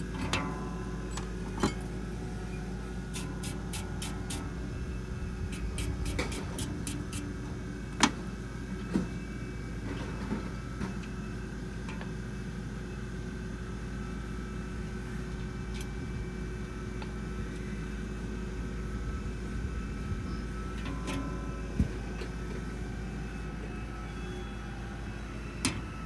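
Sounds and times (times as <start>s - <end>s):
machinery droning: 0.0s - 26.0s.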